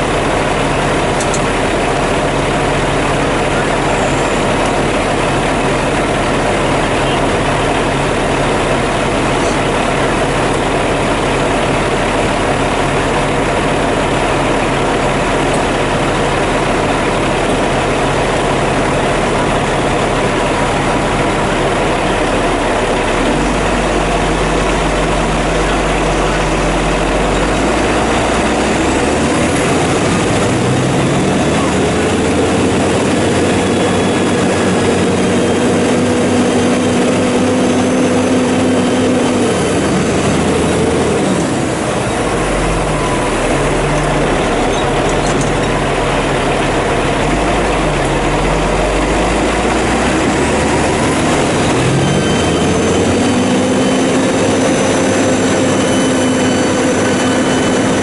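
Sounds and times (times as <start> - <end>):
heavy diesel engines droning: 0.0 - 58.0.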